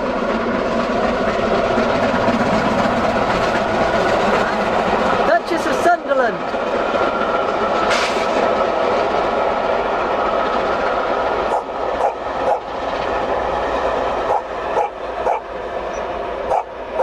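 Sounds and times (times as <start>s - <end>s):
steam train passing at speed: 0.0s - 17.0s
wheels clicking over rail joints: 0.2s - 17.0s.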